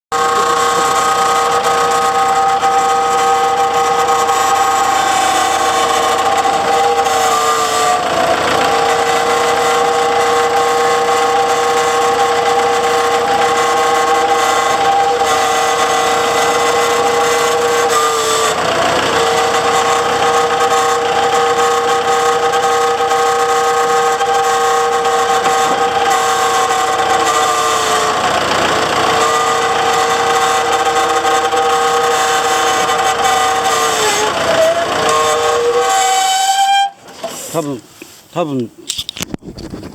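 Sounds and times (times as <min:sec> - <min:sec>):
tractor loud multi-pitched whine: 0:00.1 - 0:37.7.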